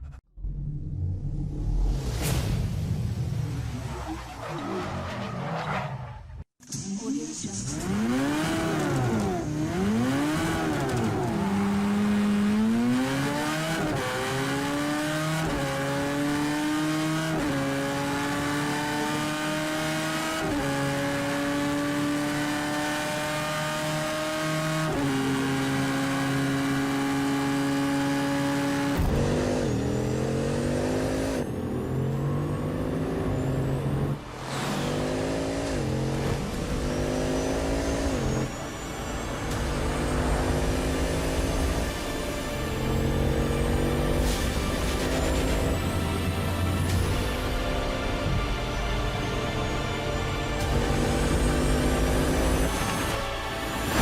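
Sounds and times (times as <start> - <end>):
engine revving: 7.7 - 48.4, 50.2 - 54.0.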